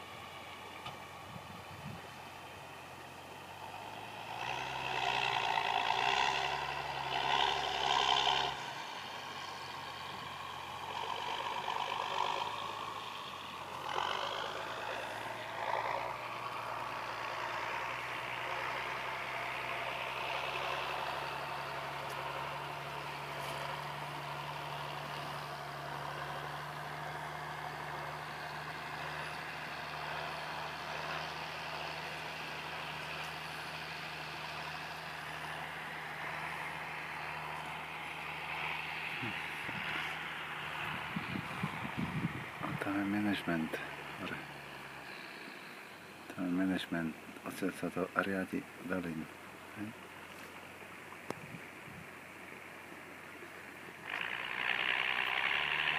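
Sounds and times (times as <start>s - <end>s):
vehicle engine speeding up: 0.0s - 46.6s, 53.6s - 55.9s.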